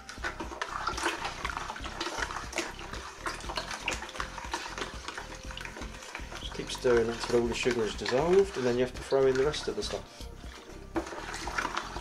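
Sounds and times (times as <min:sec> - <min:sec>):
liquid sloshing and splashing: 0:00.0 - 0:12.0.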